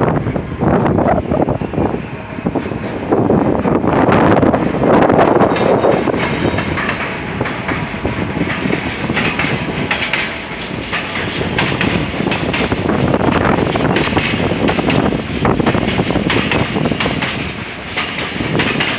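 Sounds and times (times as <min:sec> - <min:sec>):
freight train rolling past: 0:00.0 - 0:18.9
wheels clattering over rail joints: 0:02.6 - 0:18.9.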